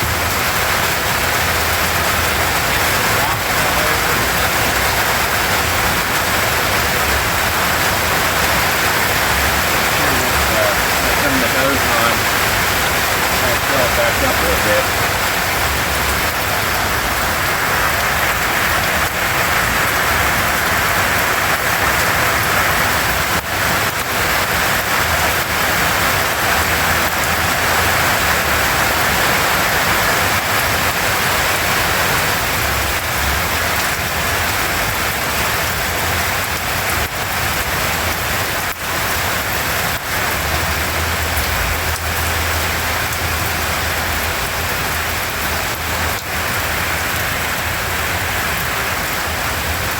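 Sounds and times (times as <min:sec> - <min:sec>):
falling water splashing: 0:00.0 - 0:49.9.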